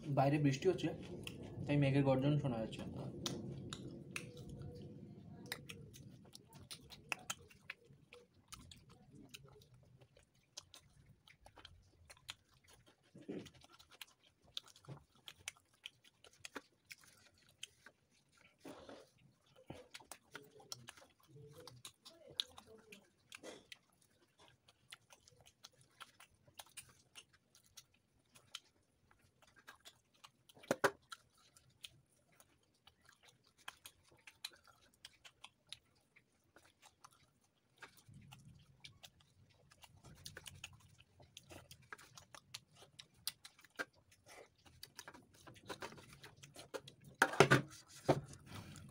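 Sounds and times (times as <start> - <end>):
wet chewing and lip-smacking: 0.0 - 48.9.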